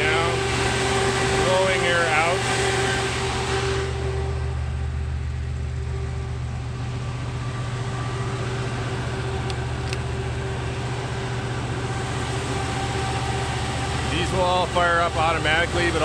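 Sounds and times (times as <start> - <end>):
generator engine droning: 0.0 - 16.0.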